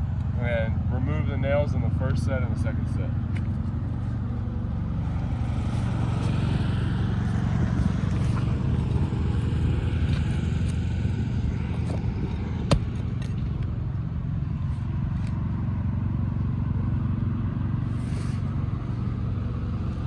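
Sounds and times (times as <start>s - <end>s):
steady low rumble: 0.0s - 17.6s.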